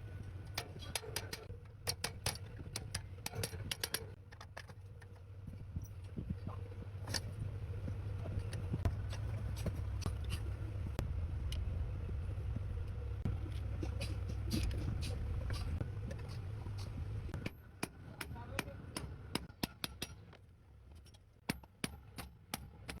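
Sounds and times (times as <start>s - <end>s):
low motor hum: 0.0s - 19.5s.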